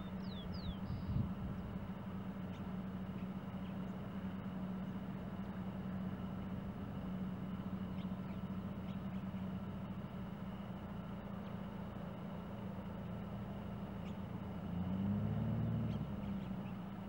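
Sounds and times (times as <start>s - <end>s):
distant propeller aircraft drone: 0.0s - 17.0s.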